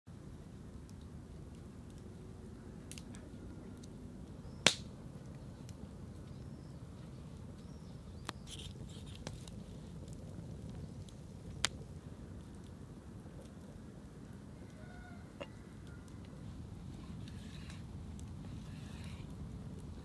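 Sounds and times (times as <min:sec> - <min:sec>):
low steady background noise: 0:00.1 - 0:20.0.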